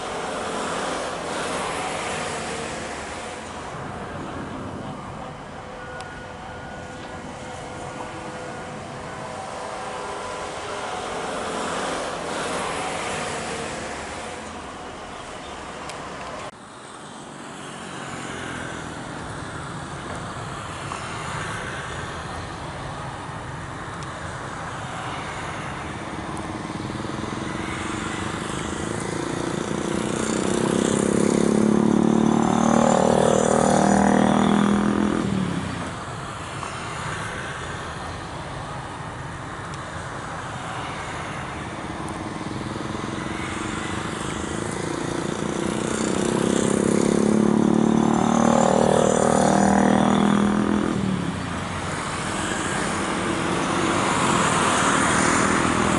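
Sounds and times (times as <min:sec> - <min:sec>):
jet engines during takeoff: 0:00.0 - 0:31.4, 0:35.2 - 0:47.2, 0:48.6 - 0:55.9.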